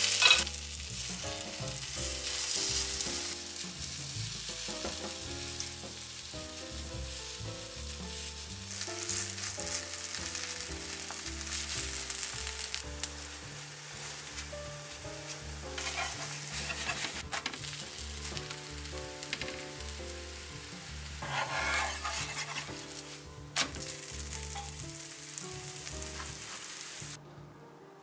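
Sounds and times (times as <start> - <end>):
potato pancake sizzling in oil: 0.0 - 27.2
light background music: 0.0 - 28.0.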